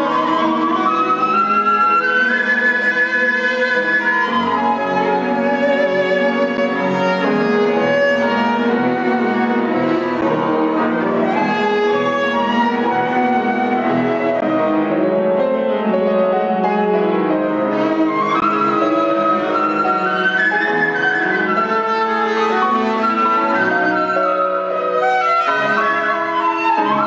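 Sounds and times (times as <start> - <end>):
bowled cello: 0.0 - 27.0
flute: 0.0 - 27.0
piano: 0.0 - 27.0.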